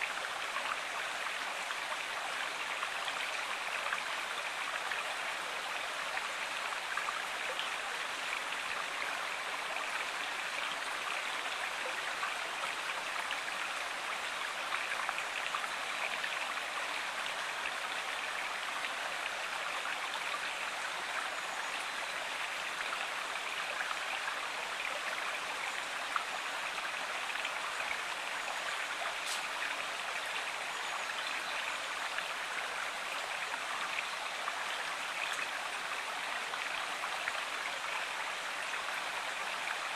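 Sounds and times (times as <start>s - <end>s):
river rushing and babbling: 0.0s - 39.9s.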